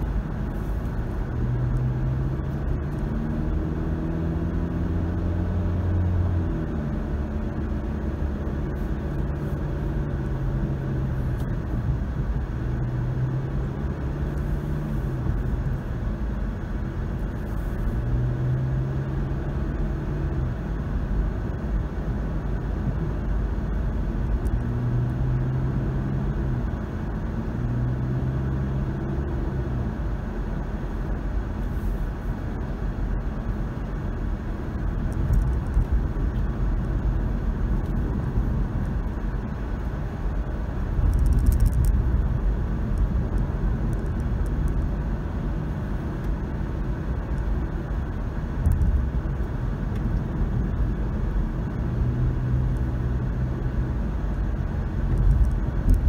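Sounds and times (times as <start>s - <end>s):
low car engine hum: 0.0s - 56.0s
tyre and road noise: 0.0s - 56.0s.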